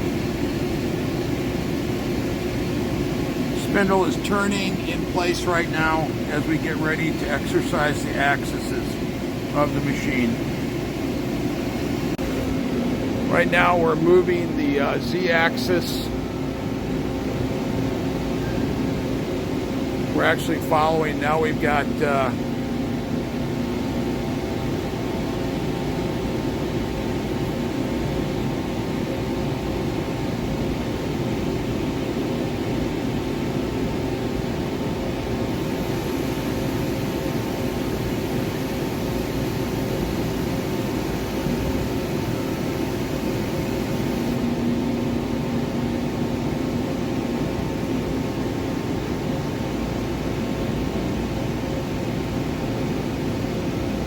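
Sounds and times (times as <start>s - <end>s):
cnc mill machine hum: 0.0s - 54.0s.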